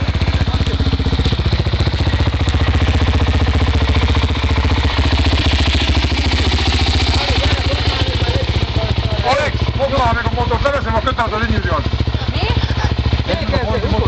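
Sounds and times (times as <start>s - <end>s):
quad bike engine chugging: 0.0s - 14.0s.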